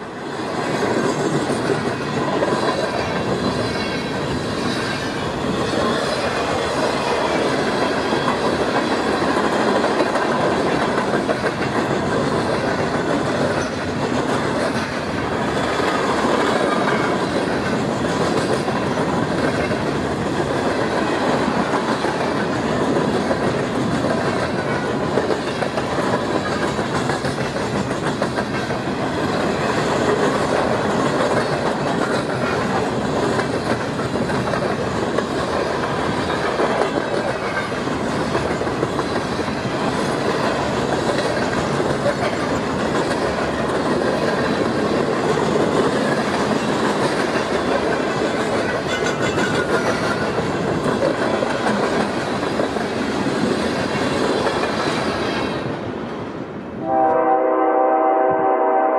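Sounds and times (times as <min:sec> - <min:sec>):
train wheels rushing on rails: 0:00.0 - 0:58.9.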